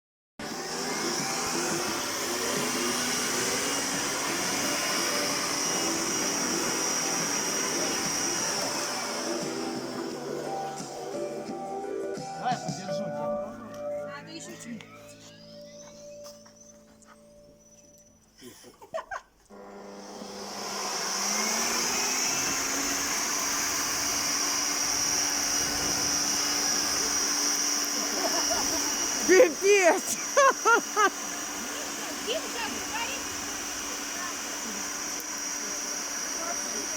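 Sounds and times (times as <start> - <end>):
garden blower whining: 0.4 - 36.9.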